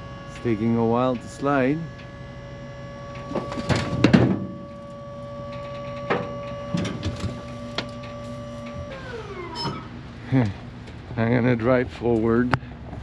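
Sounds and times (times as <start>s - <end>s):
hydraulic lift whining: 0.0s - 11.0s.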